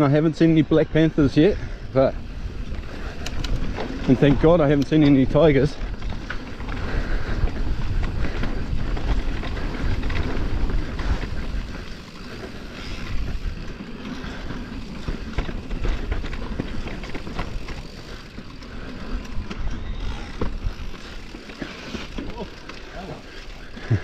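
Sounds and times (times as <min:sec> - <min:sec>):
bike rattling and knocking: 0:00.0 - 0:24.0
bike tyres rolling on dirt: 0:00.0 - 0:24.0.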